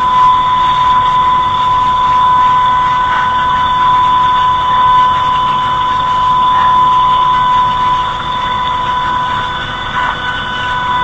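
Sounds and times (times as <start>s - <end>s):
warning siren steady high tone: 0.0s - 11.0s.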